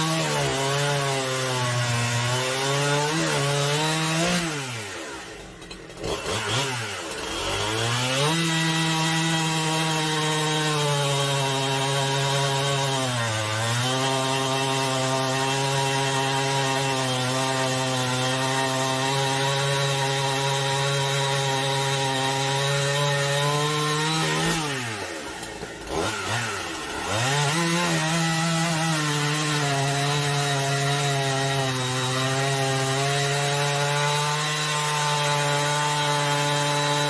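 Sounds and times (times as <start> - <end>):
chainsaw sawing wood: 0.0 - 37.0.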